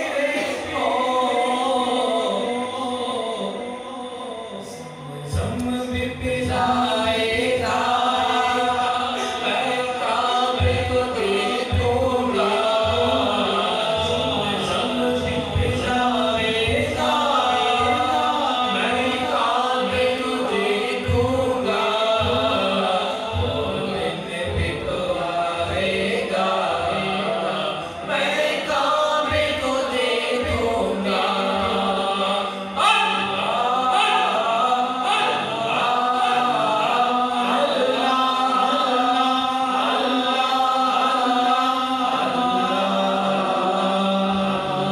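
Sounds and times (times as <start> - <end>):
echoing vocal backing: 0.0 - 44.9
man singing: 0.0 - 44.9.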